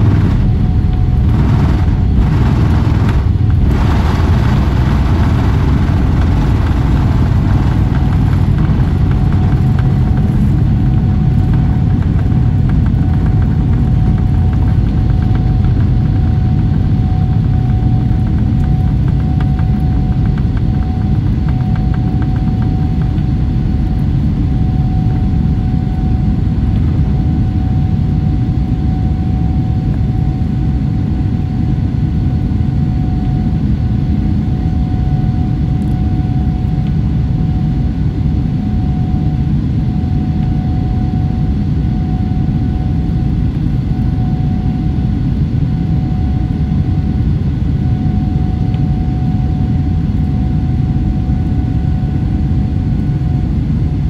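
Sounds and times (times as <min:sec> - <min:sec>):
airliner cabin roar: 0:00.0 - 0:54.0
faint steady whine: 0:00.0 - 0:54.0.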